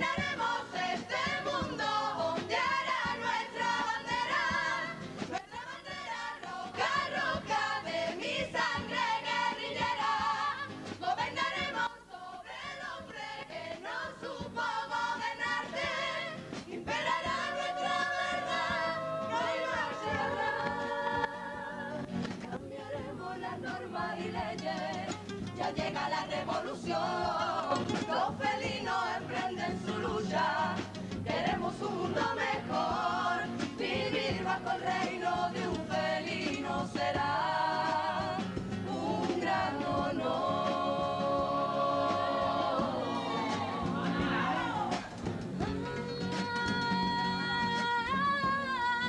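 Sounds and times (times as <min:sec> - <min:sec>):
guitar accompaniment: 0:00.0 - 0:11.9, 0:12.5 - 0:49.0
chorus singing in harmony: 0:00.0 - 0:45.4.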